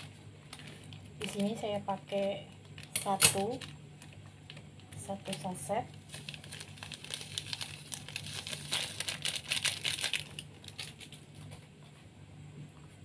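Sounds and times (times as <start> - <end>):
plastic sachet crinkling: 0.5 - 11.5.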